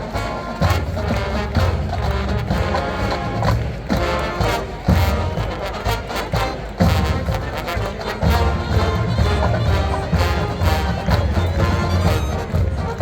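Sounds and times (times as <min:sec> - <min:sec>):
marching band brass and drums: 0:00.0 - 0:13.0.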